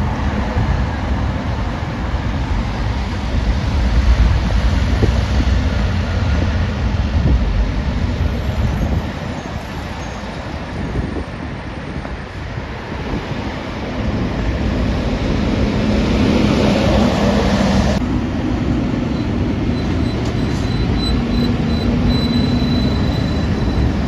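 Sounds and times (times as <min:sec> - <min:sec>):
heavy road traffic rumble: 0:00.0 - 0:24.0.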